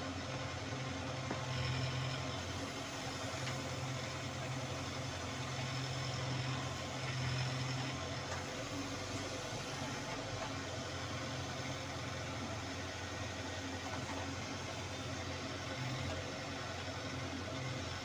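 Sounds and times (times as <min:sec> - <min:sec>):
diesel engine running: 0:00.0 - 0:18.0
backhoe hydraulics working: 0:00.2 - 0:18.0.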